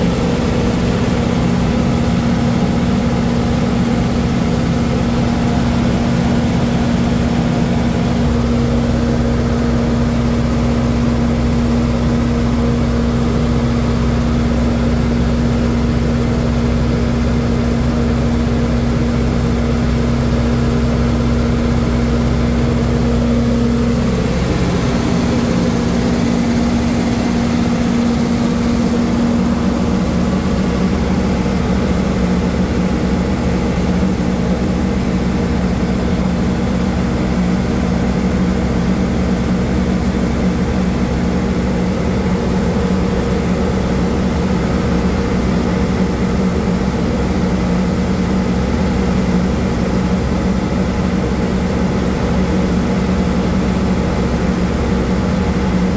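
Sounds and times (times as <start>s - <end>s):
ship engine droning: 0.0s - 55.9s.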